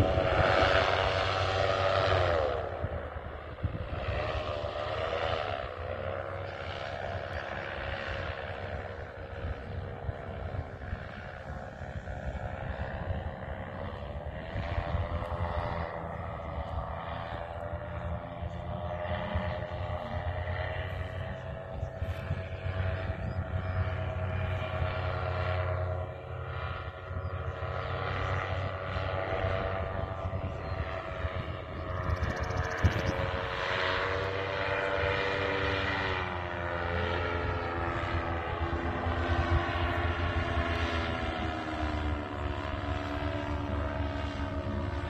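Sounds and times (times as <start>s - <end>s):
paramotor engine droning overhead: 0.0s - 45.0s.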